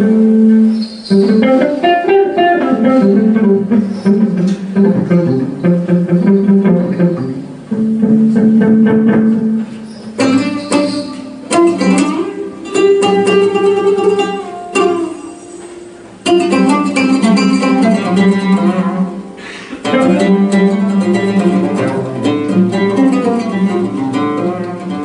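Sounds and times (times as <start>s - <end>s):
live plucked string music: 0.0s - 25.0s.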